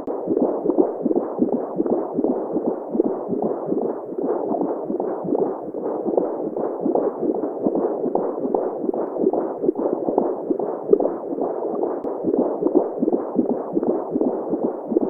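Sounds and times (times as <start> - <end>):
heartbeat-like pulse: 0.0 - 15.0.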